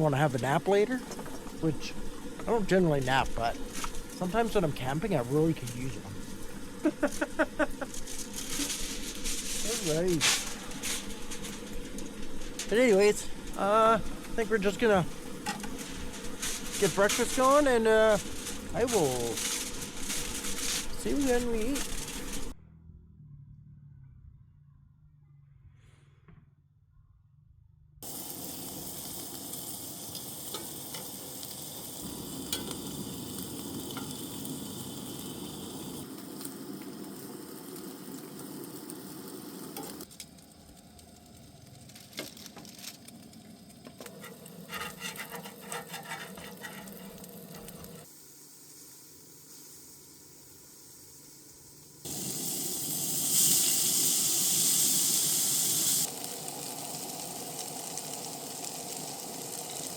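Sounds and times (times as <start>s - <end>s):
food sizzling in a pan: 0.0s - 22.6s, 28.0s - 59.9s.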